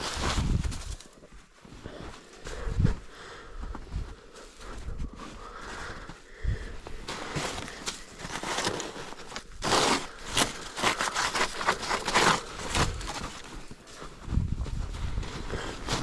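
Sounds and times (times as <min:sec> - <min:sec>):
snow crunching and scraping: 0:00.0 - 0:16.0.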